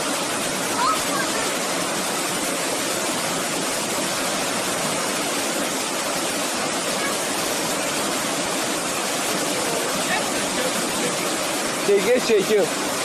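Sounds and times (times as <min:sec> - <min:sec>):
water rushing down rocky cascades: 0:00.0 - 0:13.0.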